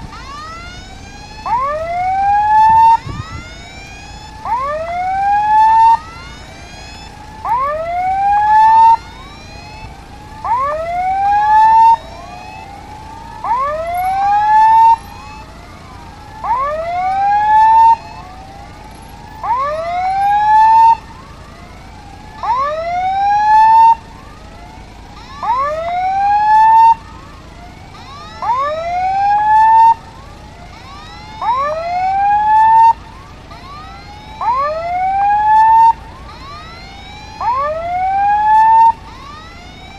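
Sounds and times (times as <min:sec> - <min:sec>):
level crossing alarm wailing: 0:00.0 - 0:39.9.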